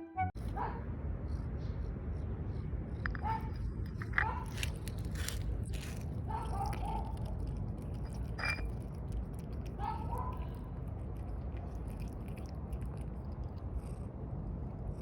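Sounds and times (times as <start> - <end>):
steady low hum: 0.4 - 15.0
cat chewing food: 2.8 - 15.0.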